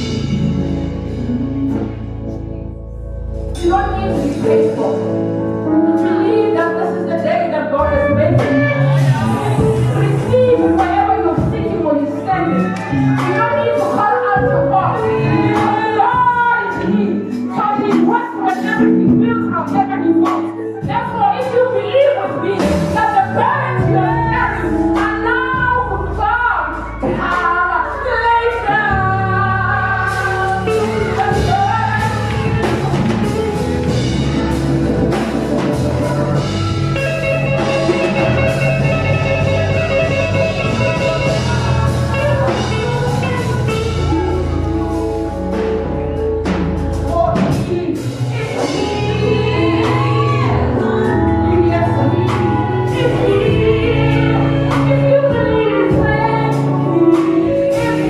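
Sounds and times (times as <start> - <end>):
band with drums and bass: 0.0 - 2.4, 7.9 - 21.7, 22.5 - 58.0
woman singing into a microphone: 0.0 - 2.6, 3.6 - 34.2, 37.6 - 58.0.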